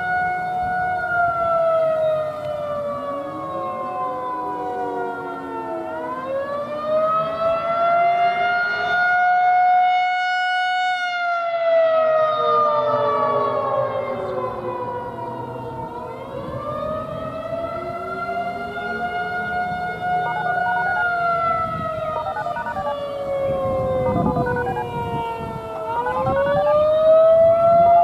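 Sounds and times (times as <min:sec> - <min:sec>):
warning siren wailing: 0:00.0 - 0:28.0.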